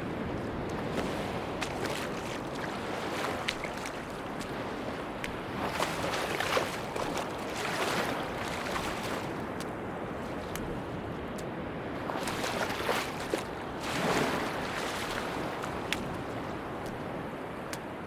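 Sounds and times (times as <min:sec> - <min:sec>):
sea waves washing onto beach: 0:00.0 - 0:18.0.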